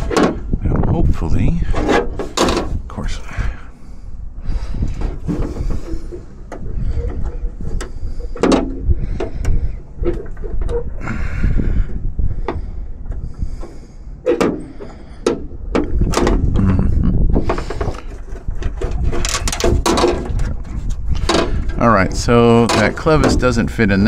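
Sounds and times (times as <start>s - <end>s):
low handling rumble: 0.0s - 24.0s.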